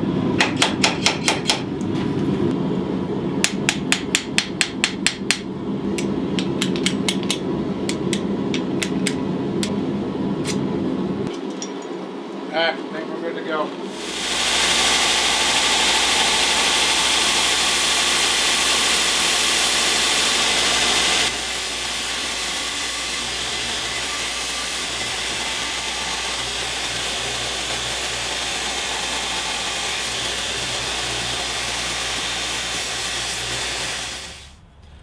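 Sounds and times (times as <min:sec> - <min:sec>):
workshop equipment running: 0:00.0 - 0:35.0.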